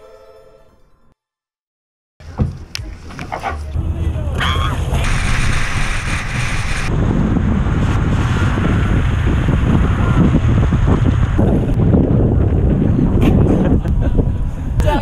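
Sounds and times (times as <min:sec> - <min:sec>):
wind buffeting microphone: 0:02.3 - 0:15.0.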